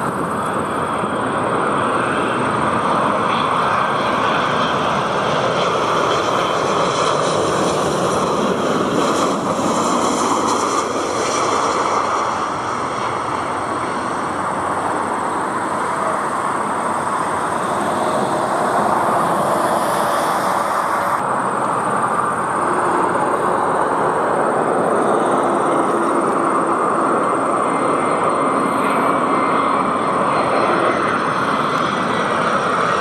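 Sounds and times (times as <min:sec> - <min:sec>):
jet engine noise: 0:00.0 - 0:33.0.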